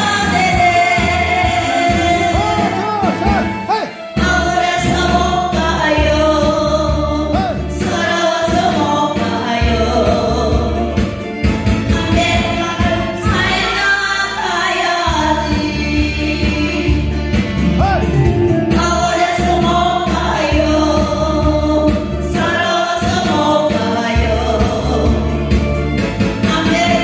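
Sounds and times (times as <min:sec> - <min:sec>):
woman singing into microphone: 0:00.0 - 0:02.8, 0:04.1 - 0:17.5, 0:18.6 - 0:27.0
group singing along: 0:00.0 - 0:11.2, 0:11.9 - 0:25.6
backing track with steady beat: 0:00.0 - 0:27.0.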